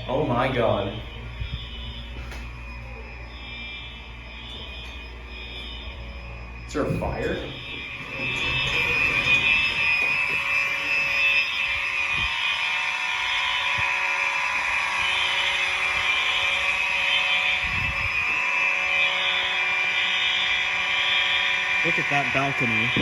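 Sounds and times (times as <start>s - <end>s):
fire alarm horns blaring: 0.0s - 23.0s.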